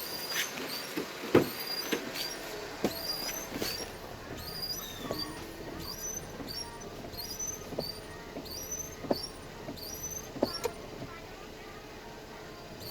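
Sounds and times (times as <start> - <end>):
windscreen wipers squeaking: 0.0 - 12.9.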